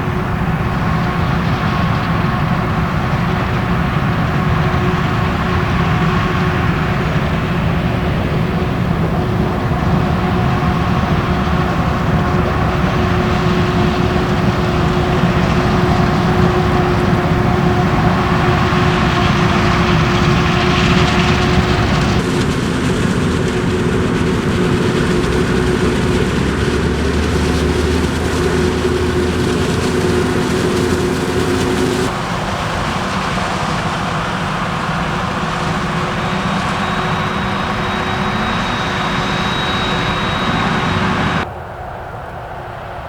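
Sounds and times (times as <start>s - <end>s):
heavy farm machinery engine: 0.0s - 41.5s.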